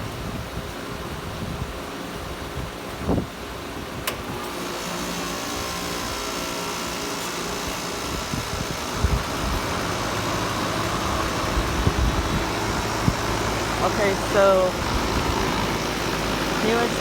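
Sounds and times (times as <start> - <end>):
heat pump humming: 0.0 - 17.0.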